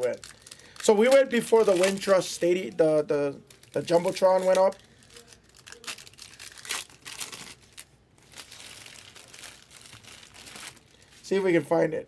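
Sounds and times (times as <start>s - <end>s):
plastic wrappers crinkling: 0.0s - 11.4s.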